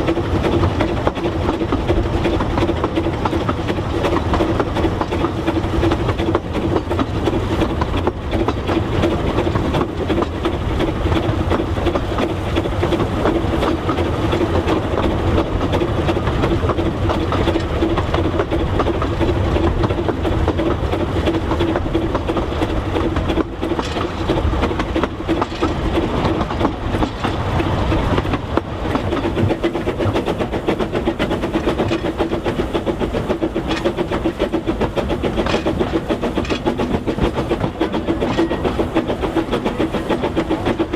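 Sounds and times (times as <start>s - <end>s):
train rumbling on track: 0.0s - 40.9s.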